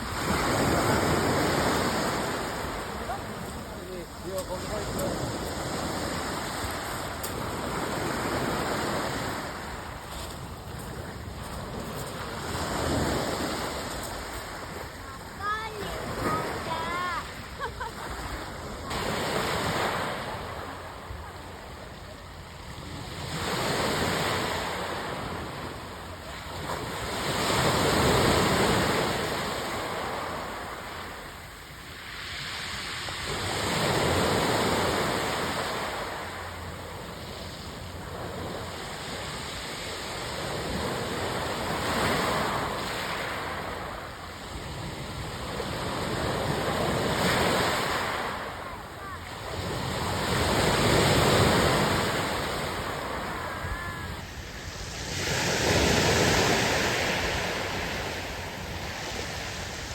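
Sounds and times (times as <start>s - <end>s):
waves breaking: 0.0s - 59.9s.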